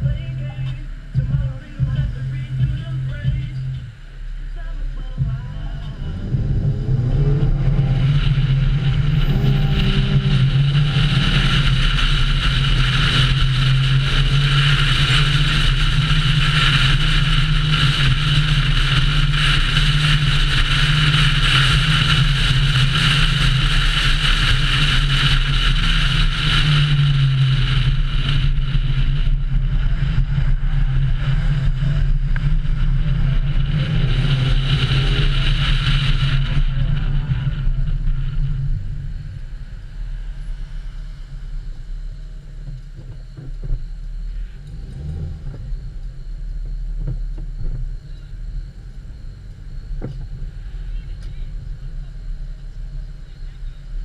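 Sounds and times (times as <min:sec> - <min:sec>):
car engine drone: 0:00.0 - 0:54.0
road and wind noise: 0:00.0 - 0:54.0.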